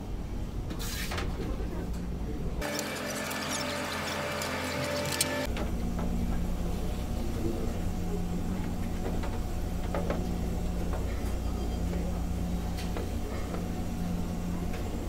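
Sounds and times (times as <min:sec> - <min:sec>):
ship machinery drone: 0:02.6 - 0:15.0.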